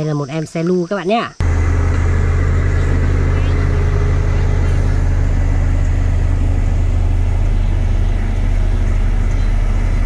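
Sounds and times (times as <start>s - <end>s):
road roller diesel engine running: 1.4s - 10.0s.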